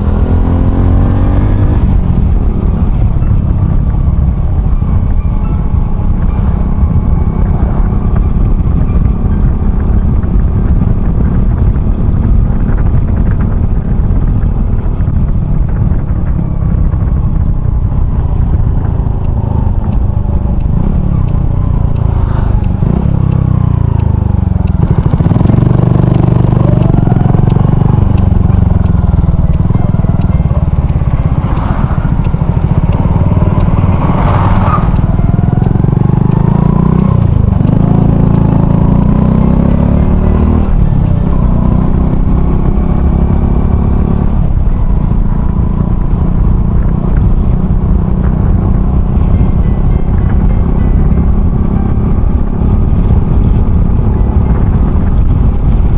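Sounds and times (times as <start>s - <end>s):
motorcycle engine running: 0.0s - 55.9s
wind rumble on microphone: 0.0s - 55.9s.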